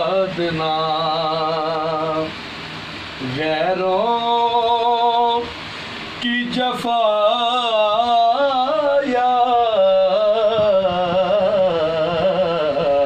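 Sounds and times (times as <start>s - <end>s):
man singing: 0.0s - 2.4s, 3.2s - 5.5s, 6.2s - 13.0s.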